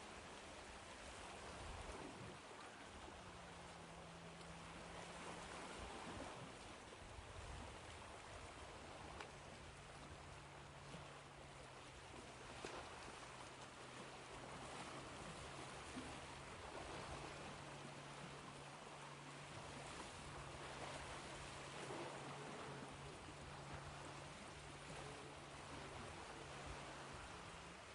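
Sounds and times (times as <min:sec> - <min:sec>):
ocean waves washing on shore: 0:00.0 - 0:27.9.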